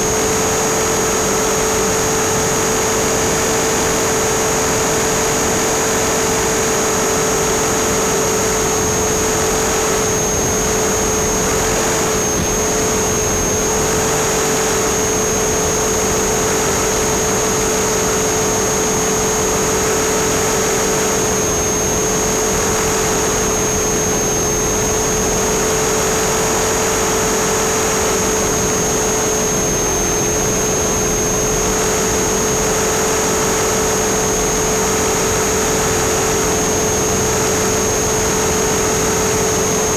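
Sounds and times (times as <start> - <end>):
high motor whine: 0.0 - 39.9
rc helicopter rotor drone: 0.0 - 39.9.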